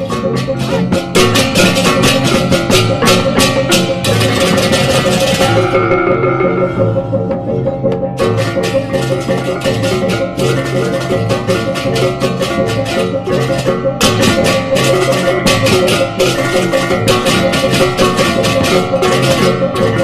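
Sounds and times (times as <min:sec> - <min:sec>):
fast percussion beat: 0:00.0 - 0:20.0
ringing pitched notes: 0:00.0 - 0:20.0.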